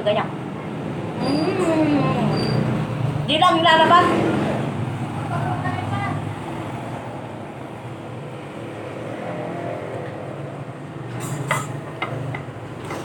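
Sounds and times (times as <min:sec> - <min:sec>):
low motor or traffic hum: 0:00.0 - 0:13.0.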